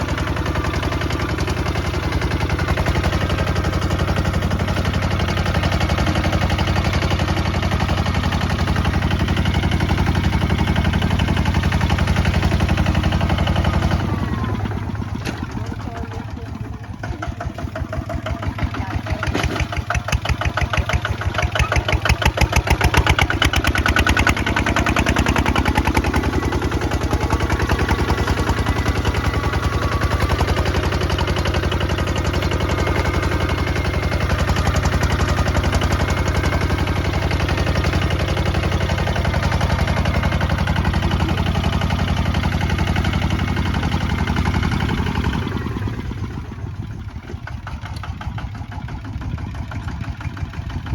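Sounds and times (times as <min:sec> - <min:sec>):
single-cylinder diesel engine running: 0:00.0 - 0:50.9.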